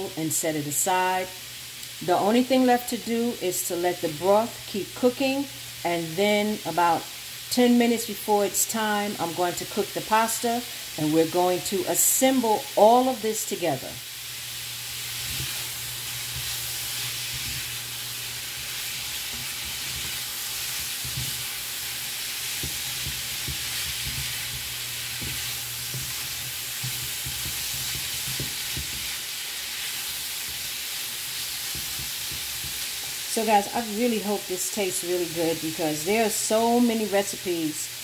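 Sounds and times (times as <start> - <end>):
sausage sizzling in a frying pan: 0.0 - 38.0.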